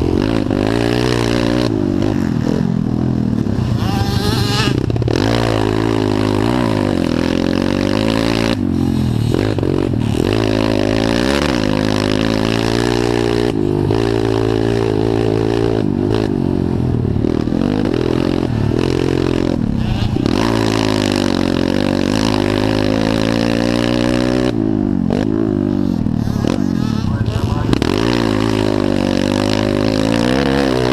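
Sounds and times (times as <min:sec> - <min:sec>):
motorbike engine revving: 0:00.0 - 0:30.9.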